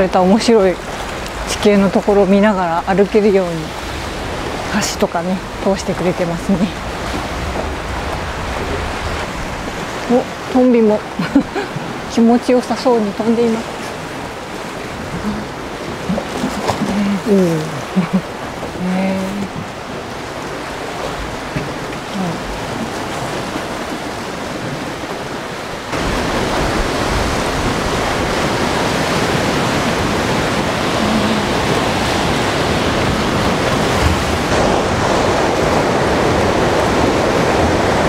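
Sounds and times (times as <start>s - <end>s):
waves breaking on rocky shore: 0.0s - 38.0s.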